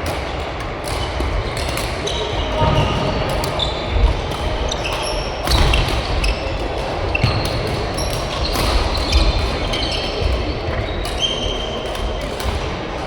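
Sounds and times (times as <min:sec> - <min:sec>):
shoes squeaking on court floor: 0:00.9 - 0:12.7.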